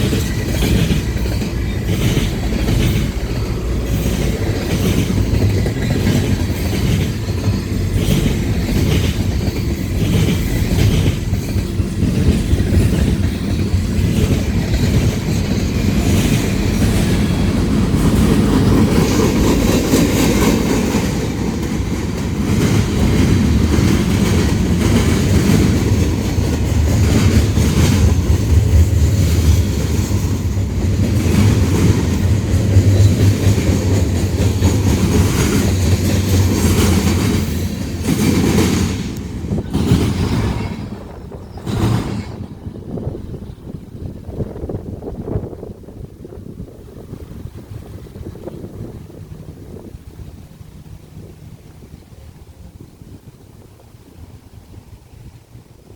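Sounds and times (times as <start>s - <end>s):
wheels clicking over rail joints: 0.0s - 52.6s
freight train rumbling past: 0.0s - 55.9s.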